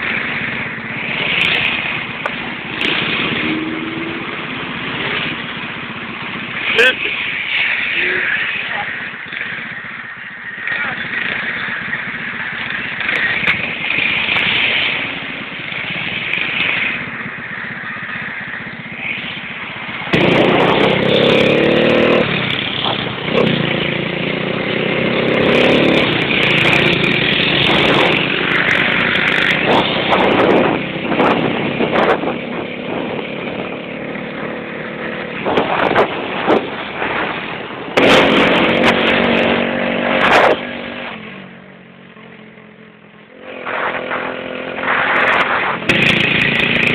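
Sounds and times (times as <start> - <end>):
motorcycle engine revving: 0.0 - 46.9
steady rushing noise: 0.0 - 46.9.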